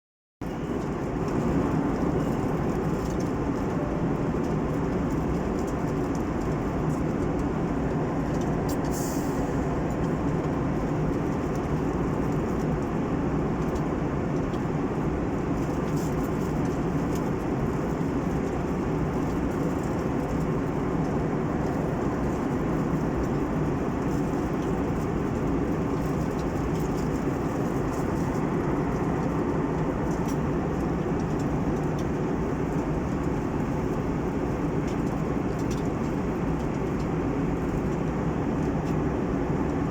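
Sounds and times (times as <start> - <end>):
airliner cabin engine rush: 0.4 - 39.9.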